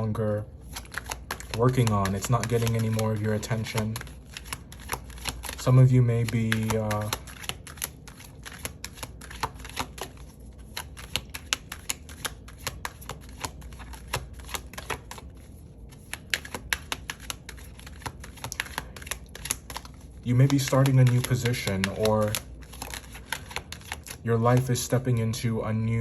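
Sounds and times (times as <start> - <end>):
cards being shuffled: 0.6 - 25.2.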